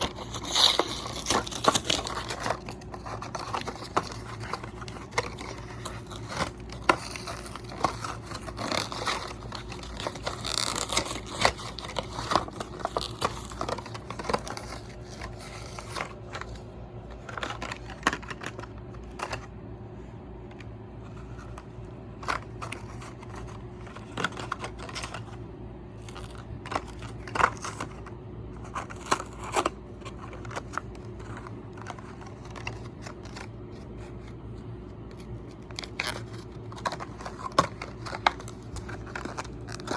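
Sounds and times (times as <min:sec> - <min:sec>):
packaging crinkling and tearing: 0:00.0 - 0:19.5, 0:21.1 - 0:39.9
low electrical hum: 0:00.0 - 0:39.9.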